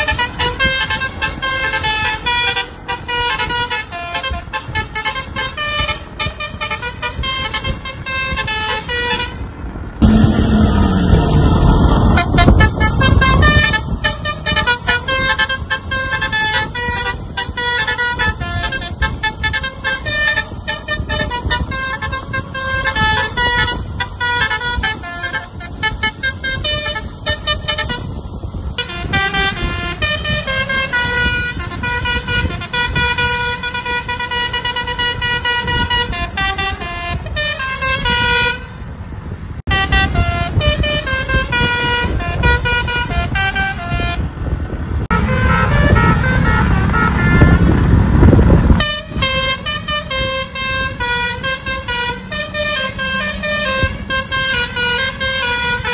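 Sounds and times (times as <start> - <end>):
musical air horns playing a tune: 0.0 - 28.2, 28.8 - 38.8, 39.7 - 44.3, 45.1 - 48.1, 48.7 - 55.9.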